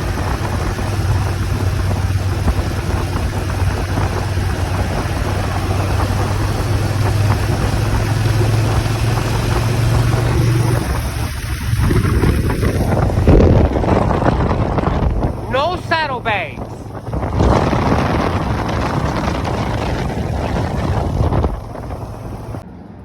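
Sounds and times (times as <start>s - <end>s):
motorcycle engine running: 0.0s - 15.7s, 16.8s - 22.6s
wind buffeting microphone: 0.0s - 22.6s.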